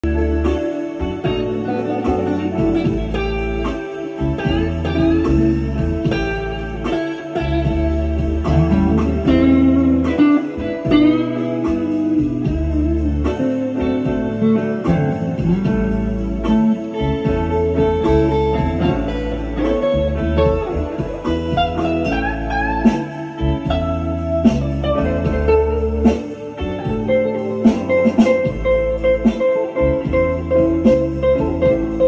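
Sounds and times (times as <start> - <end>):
backing track with bass line: 0.0 - 32.0
electric guitar blues lead: 0.0 - 32.0.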